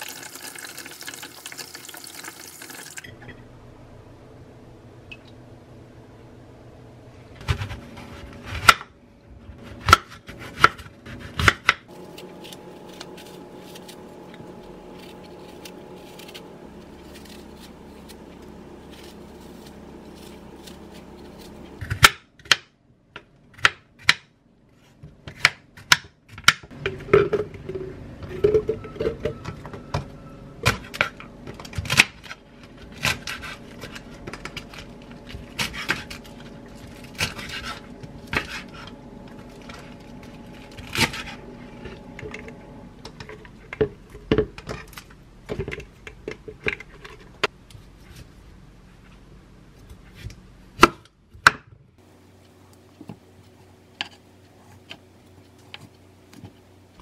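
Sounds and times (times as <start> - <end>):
low steady hum: 0.0 - 25.3, 26.3 - 57.0.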